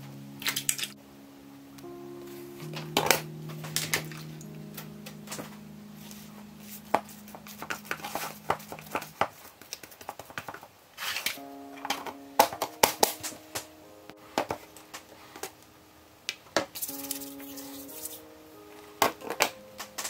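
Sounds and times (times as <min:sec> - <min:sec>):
soft background music: 0:00.0 - 0:09.5, 0:11.4 - 0:20.0.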